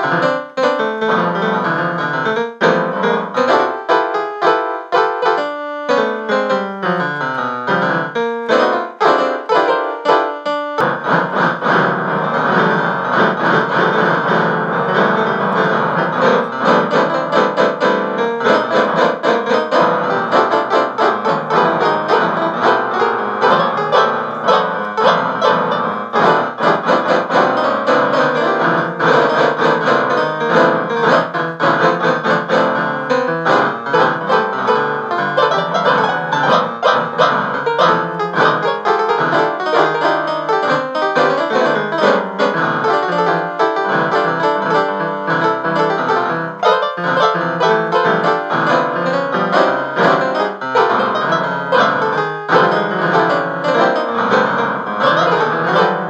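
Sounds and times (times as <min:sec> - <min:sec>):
piano music: 0:00.0 - 0:56.0.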